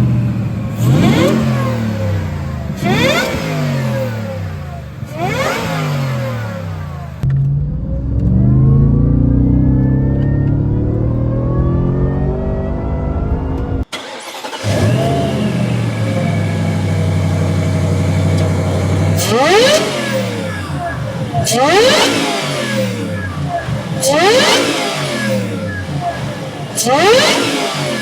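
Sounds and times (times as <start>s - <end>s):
supercharged engine idling and revving: 0.0s - 28.0s.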